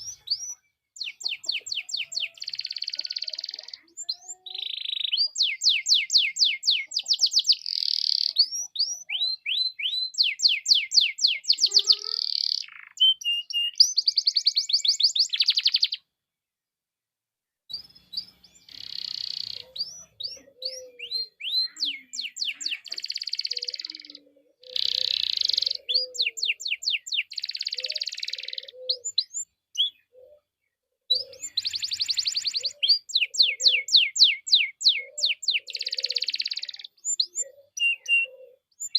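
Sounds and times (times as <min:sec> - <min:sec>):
low bird chirps: 0:00.0 - 0:16.0, 0:17.7 - 0:38.9
canary singing trills: 0:00.0 - 0:16.1, 0:17.7 - 0:38.9.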